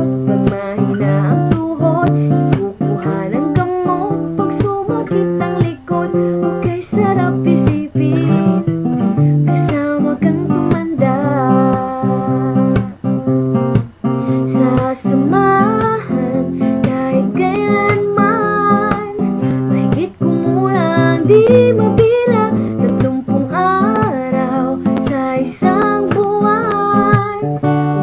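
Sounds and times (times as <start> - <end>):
woman singing: 0.0 - 13.2, 14.2 - 28.0
acoustic guitar strumming: 0.0 - 28.0.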